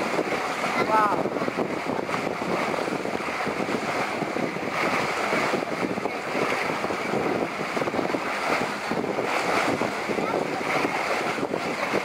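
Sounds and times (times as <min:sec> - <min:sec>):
sea water splashing along hull: 0:00.0 - 0:12.0
wind buffeting microphone: 0:00.0 - 0:12.0.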